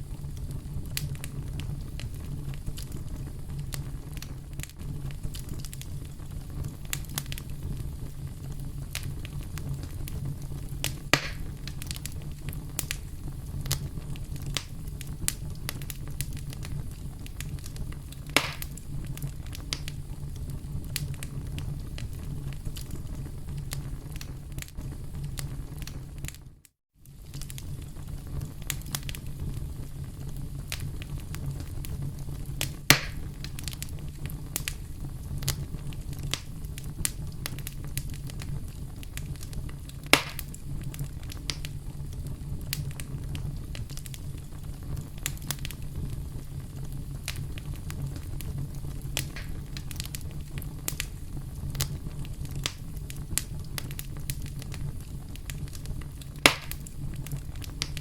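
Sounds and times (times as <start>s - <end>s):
campfire crackling: 0.0s - 58.0s
loud fire pops: 0.0s - 58.0s.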